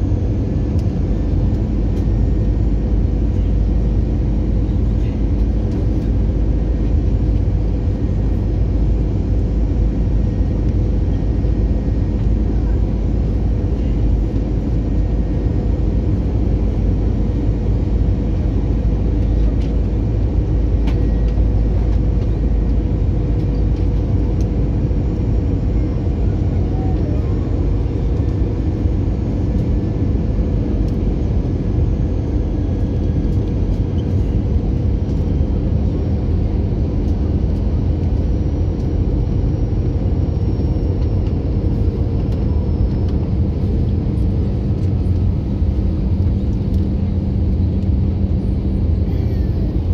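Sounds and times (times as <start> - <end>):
airplane cabin engine rumble: 0.0 - 49.9
steady hum: 0.0 - 49.9.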